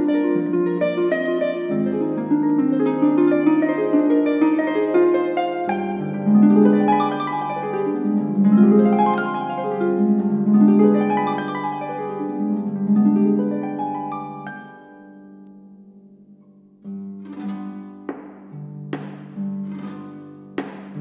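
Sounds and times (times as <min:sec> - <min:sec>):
harp playing: 0:00.0 - 0:21.0.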